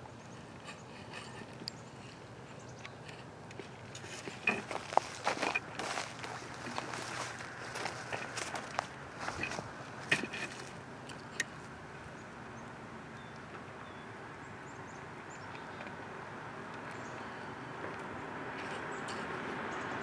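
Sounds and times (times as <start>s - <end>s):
steady outdoor noise: 0.0s - 20.0s.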